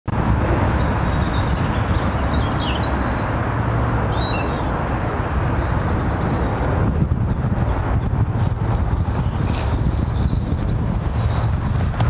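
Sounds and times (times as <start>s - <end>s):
steady rushing noise: 0.1s - 12.0s
songbirds chirping and singing: 1.1s - 10.8s.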